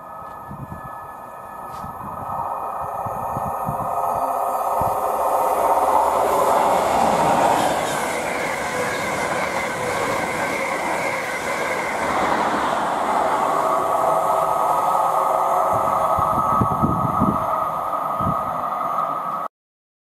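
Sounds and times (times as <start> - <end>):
high whine from wheels: 0.0 - 19.5
train wheels rushing on rail: 0.0 - 19.5.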